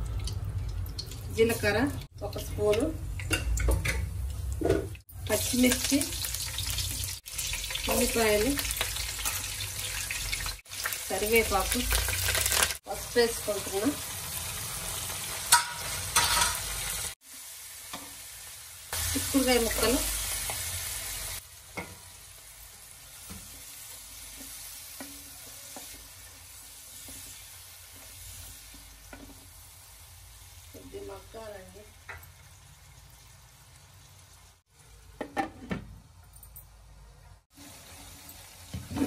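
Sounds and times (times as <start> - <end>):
beans sizzling in oil: 5.1 - 35.2, 37.5 - 39.0.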